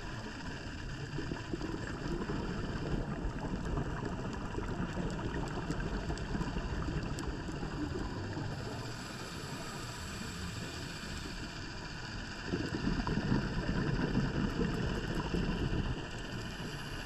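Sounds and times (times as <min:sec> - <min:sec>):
muffled underwater rumble and hiss: 0:00.0 - 0:17.0.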